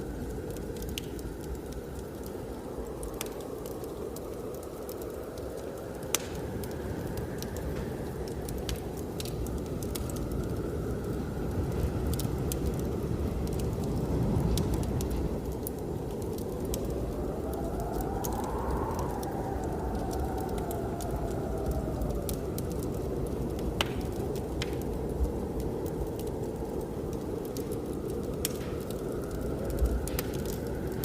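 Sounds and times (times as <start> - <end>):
whistling blizzard wind: 0.0 - 31.0
wood fire crackling and popping: 0.0 - 31.0.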